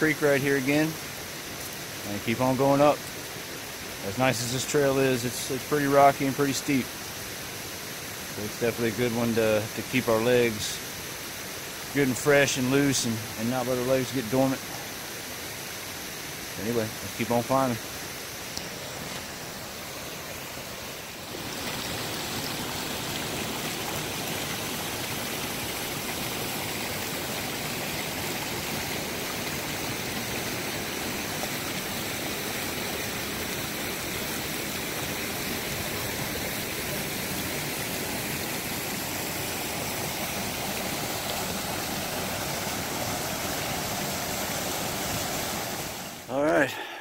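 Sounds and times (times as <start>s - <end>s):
creek rushing over boulders: 0.0s - 47.0s.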